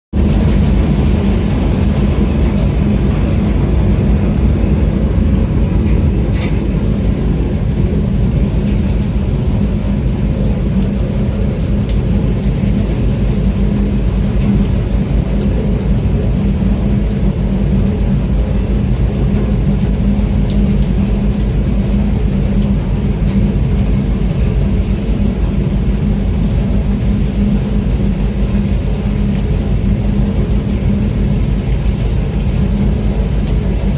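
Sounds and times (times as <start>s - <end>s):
boat engine rumbling: 0.1s - 33.9s
rain hissing: 0.2s - 33.9s.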